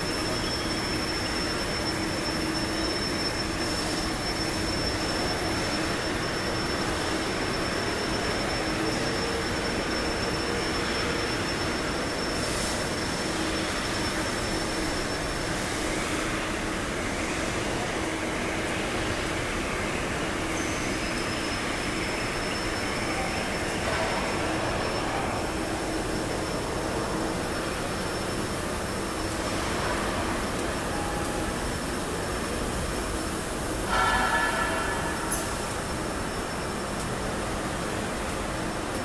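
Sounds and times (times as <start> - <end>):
thin high whine: 0.0 - 37.2
factory machinery drone: 0.0 - 39.0.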